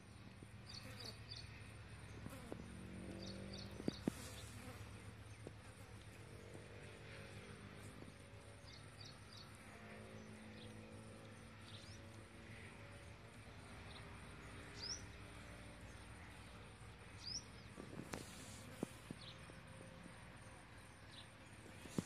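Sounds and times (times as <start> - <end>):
faint outdoor ambience: 0.0 - 22.0.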